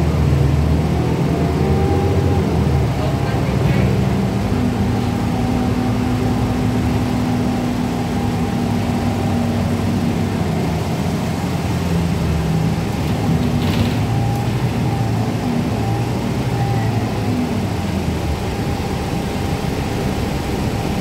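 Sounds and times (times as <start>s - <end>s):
bus engine drone: 0.0s - 21.0s
road and tyre noise: 0.0s - 21.0s.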